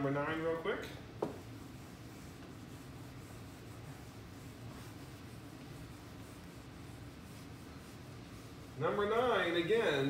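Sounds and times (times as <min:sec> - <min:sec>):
eraser wiping a whiteboard: 0:01.2 - 0:10.0.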